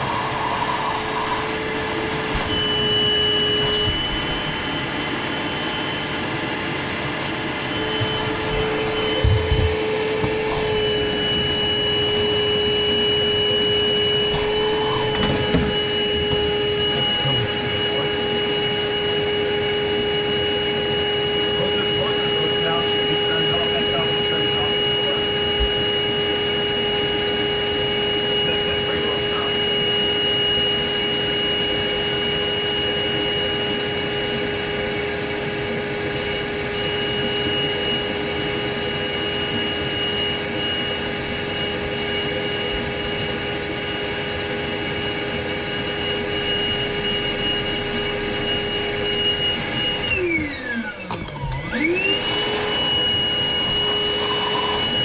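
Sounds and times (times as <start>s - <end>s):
shop vacuum whining: 0.0s - 55.0s.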